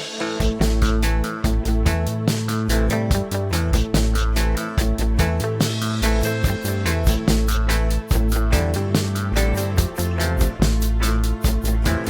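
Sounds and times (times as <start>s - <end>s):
upbeat band music: 0.0s - 12.0s.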